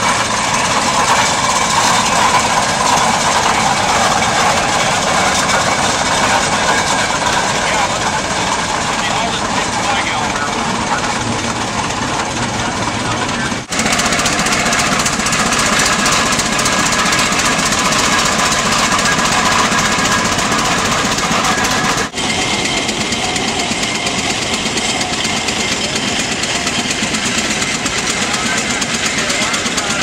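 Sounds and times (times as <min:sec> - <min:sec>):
old engine knocking rattle: 0:00.0 - 0:30.0.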